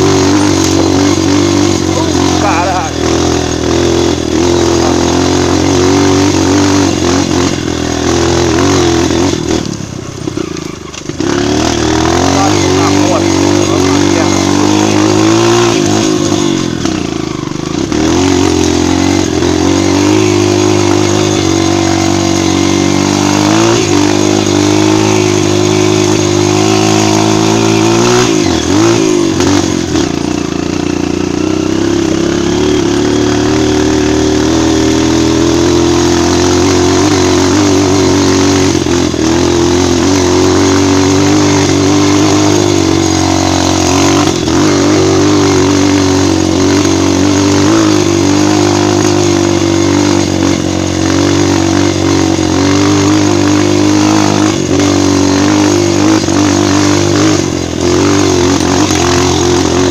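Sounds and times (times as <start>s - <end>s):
motorcycle engine running under load: 0.0s - 59.9s.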